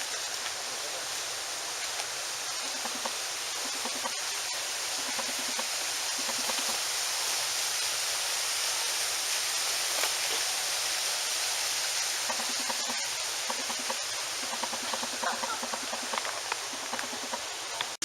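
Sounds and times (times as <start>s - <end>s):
small stream flowing: 0.0s - 18.0s.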